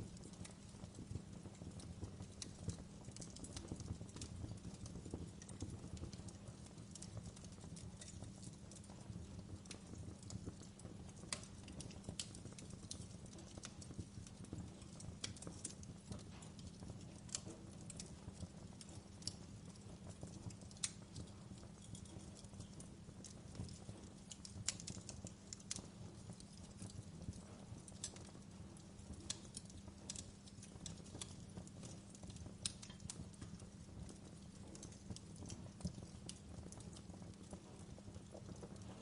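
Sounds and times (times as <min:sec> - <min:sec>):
log fire crackling and popping: 0:00.0 - 0:39.0.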